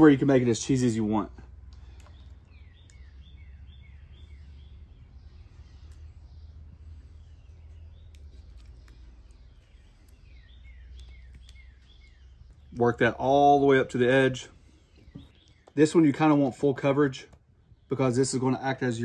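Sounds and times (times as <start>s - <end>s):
low rumble of outdoor noise: 0.0s - 19.0s
small birds chirping: 0.0s - 19.0s.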